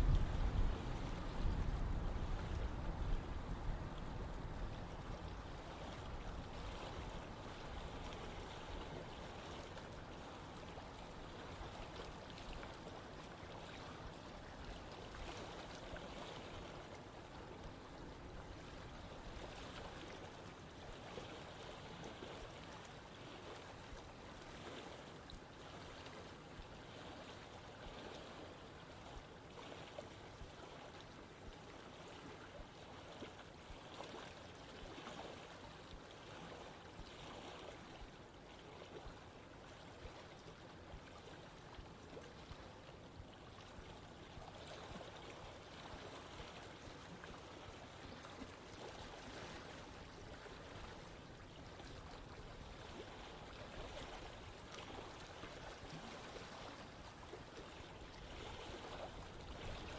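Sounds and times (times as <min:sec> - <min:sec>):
stream water rushing and babbling: 0:00.0 - 0:59.9.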